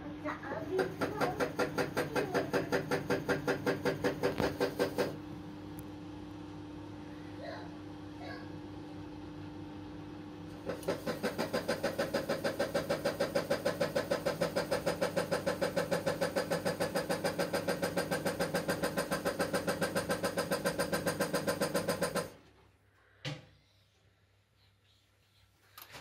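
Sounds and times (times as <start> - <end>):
washing machine motor pulsing buzz: 0.0 - 22.4.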